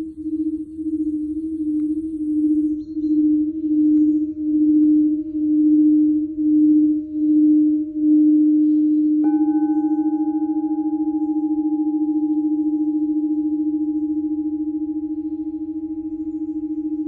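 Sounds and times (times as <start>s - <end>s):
higher singing bowl ringing: 0.0s - 17.0s
low singing bowl pulsing tone: 0.0s - 17.0s.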